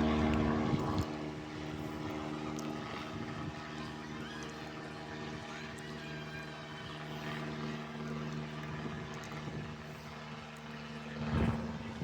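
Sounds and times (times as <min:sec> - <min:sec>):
propeller airplane droning overhead: 0:00.0 - 0:12.0.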